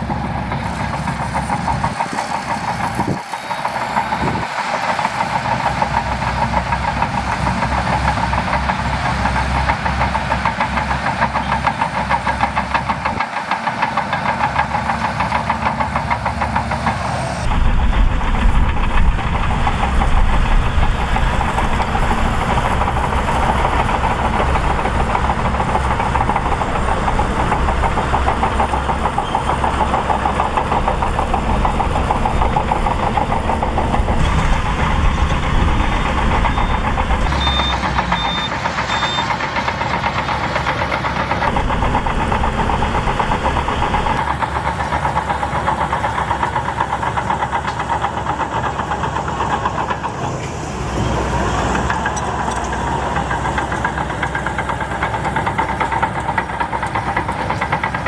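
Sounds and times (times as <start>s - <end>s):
bulldozer diesel engine running hard: 0.0s - 58.0s
machine clatter: 0.5s - 50.4s, 51.8s - 58.0s.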